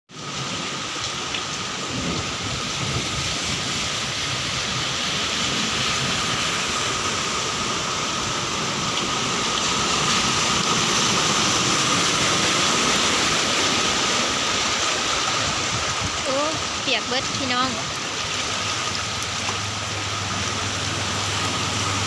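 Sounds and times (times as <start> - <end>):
heavy rain pouring: 0.1 - 22.0.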